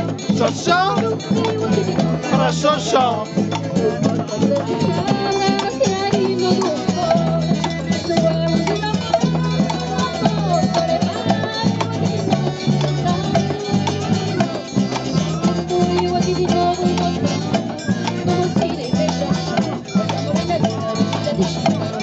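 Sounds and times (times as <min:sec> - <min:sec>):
accordion: 0:00.0 - 0:22.0
acoustic guitars: 0:00.0 - 0:22.0
folk band playing: 0:00.0 - 0:22.0.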